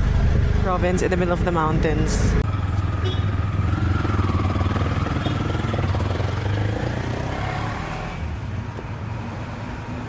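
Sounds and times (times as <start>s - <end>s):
auto-rickshaw engine running: 0.0s - 8.8s.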